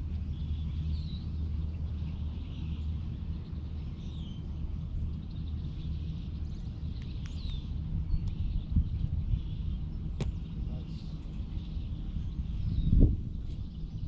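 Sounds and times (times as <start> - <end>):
steady low rumble: 0.0 - 14.0
birds chirping: 0.1 - 14.0.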